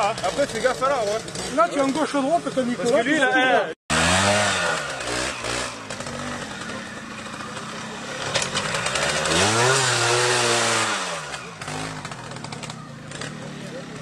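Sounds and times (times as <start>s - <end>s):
motorcycle engine revving: 0.0s - 3.1s, 3.9s - 14.0s.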